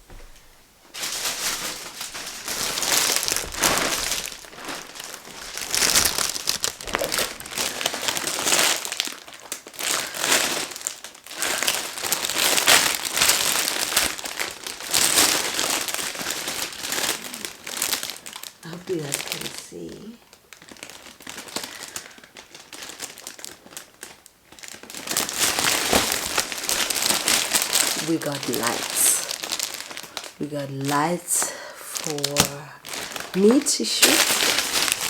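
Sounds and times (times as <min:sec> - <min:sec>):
packaging crinkling and rustling: 0:00.8 - 0:35.0.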